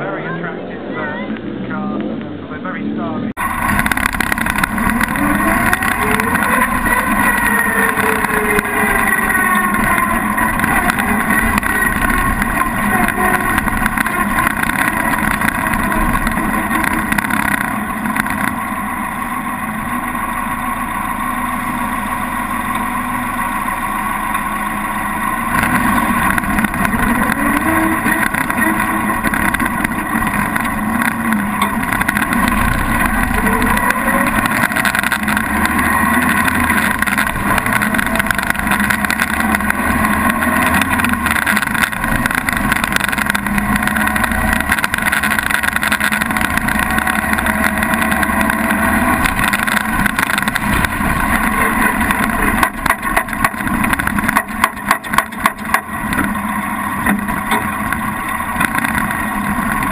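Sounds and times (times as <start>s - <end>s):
vintage car engine running: 0.0s - 59.9s.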